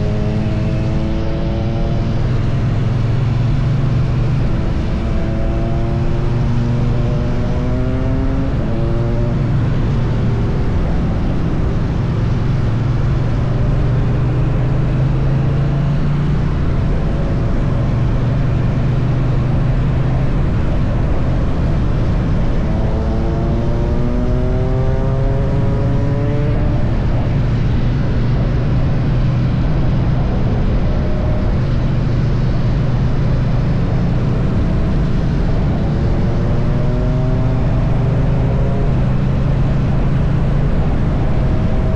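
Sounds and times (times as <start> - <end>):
motorcycle engine cruising: 0.0 - 41.9
wind noise: 0.0 - 41.9.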